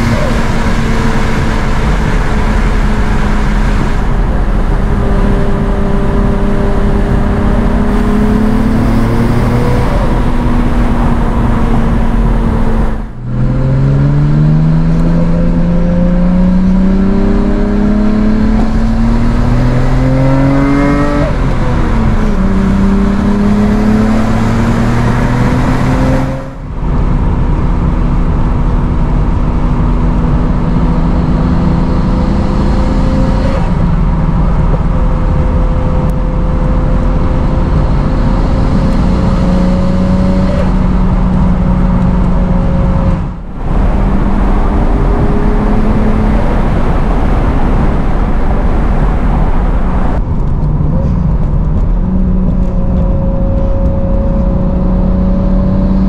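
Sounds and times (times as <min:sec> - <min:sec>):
car engine accelerating: 0:00.0 - 0:56.0
tyre and road noise: 0:00.0 - 0:56.0.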